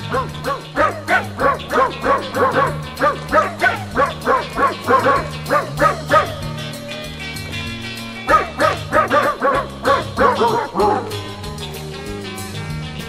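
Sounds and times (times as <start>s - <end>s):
puppies squealing: 0.0s - 11.6s
background music with bass line: 0.0s - 13.0s.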